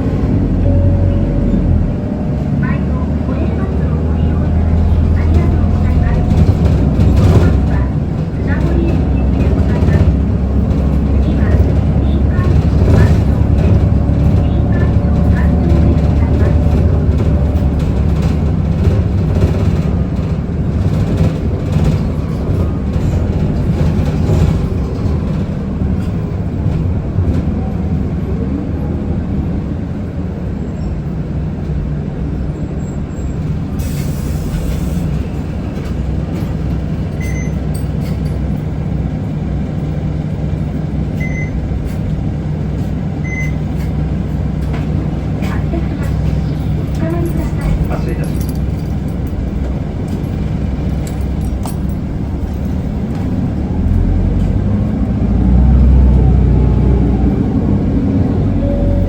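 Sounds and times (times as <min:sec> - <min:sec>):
bus diesel engine hum: 0:00.0 - 0:59.0.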